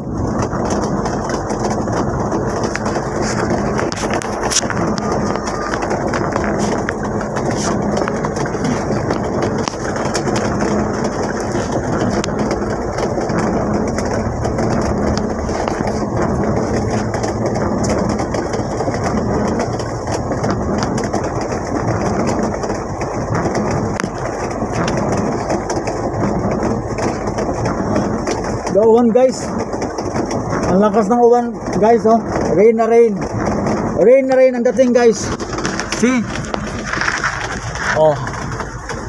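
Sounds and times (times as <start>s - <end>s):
heavy rain on a vehicle: 0.0s - 39.0s
van engine running: 0.0s - 39.0s.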